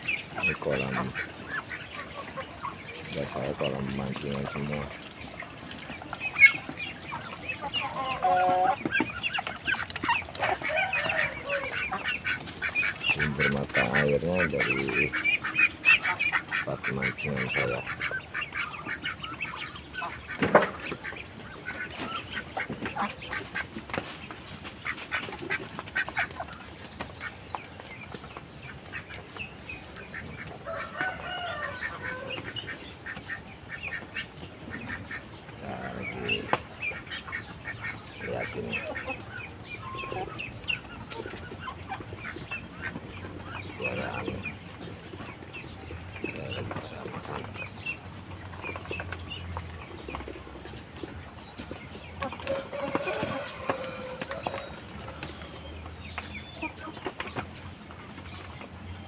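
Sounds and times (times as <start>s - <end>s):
ducks and chickens calling: 0.0s - 59.0s.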